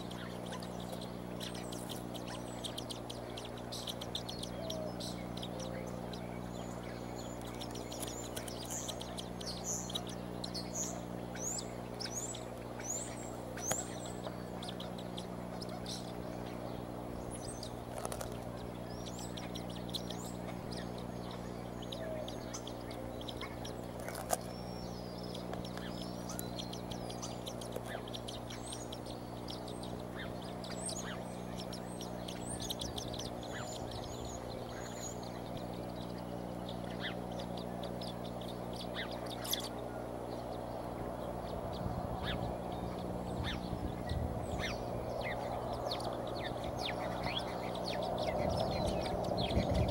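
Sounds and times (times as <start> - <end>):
eagles chirping: 0.0 - 49.9
steady low hum: 0.0 - 49.9.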